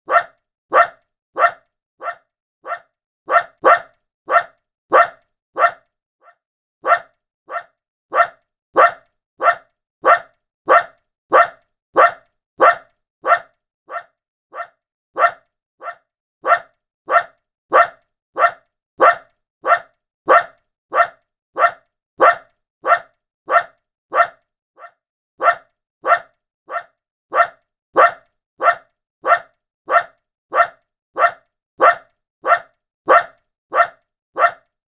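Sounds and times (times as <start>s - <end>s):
small dog barking: 0.1s - 34.6s.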